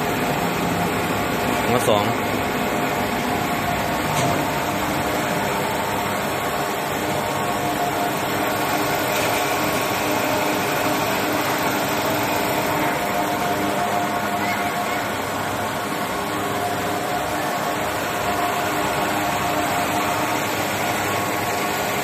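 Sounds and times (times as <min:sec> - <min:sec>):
lathe machine whirring: 0:00.0 - 0:22.0.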